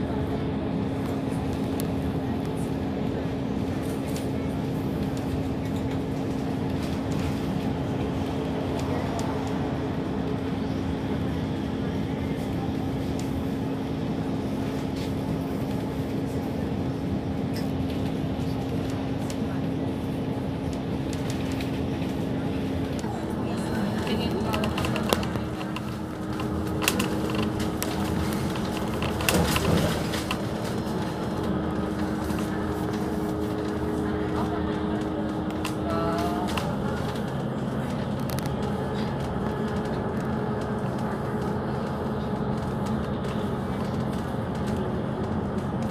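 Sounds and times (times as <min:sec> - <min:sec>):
road noise: 0:00.0 - 0:45.9
vehicle engine drone: 0:00.0 - 0:45.9.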